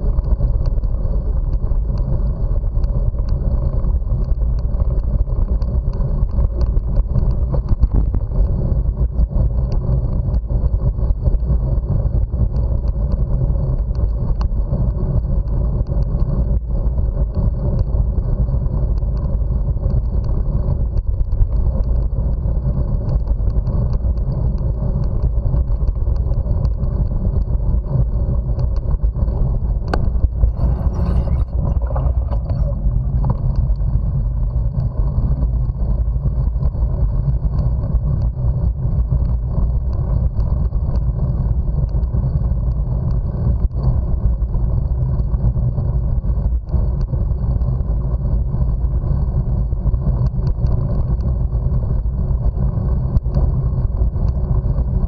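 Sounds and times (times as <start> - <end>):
wind buffeting microphone: 0.0 - 48.6
bike tyres rolling on pavement: 0.0 - 55.0.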